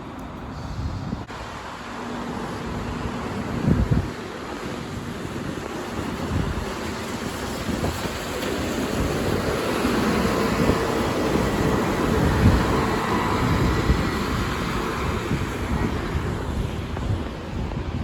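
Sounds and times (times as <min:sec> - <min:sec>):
bus engine and tyres passing: 0:00.0 - 0:18.0
wind buffeting microphone: 0:00.0 - 0:18.0.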